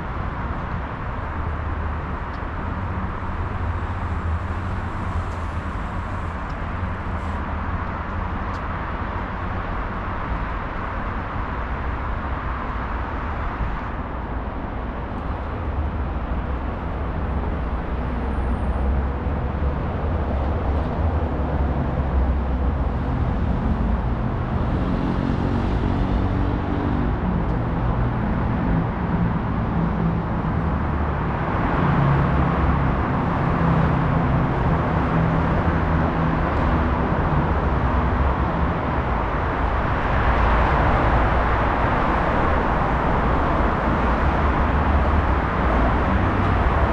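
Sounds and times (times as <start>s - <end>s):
heavy vehicle engine hum: 0.0s - 46.9s
road traffic rumble: 0.0s - 46.9s.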